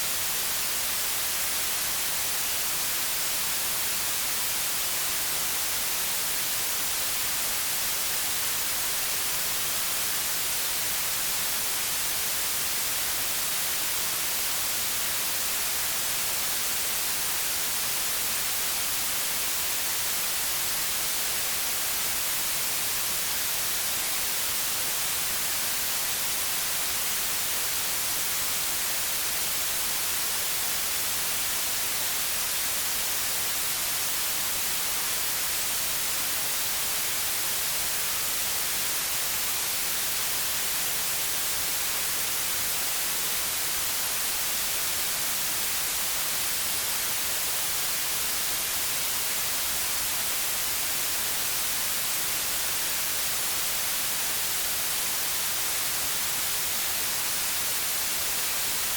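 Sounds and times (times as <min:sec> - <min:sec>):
white noise hiss: 0:00.0 - 0:58.9.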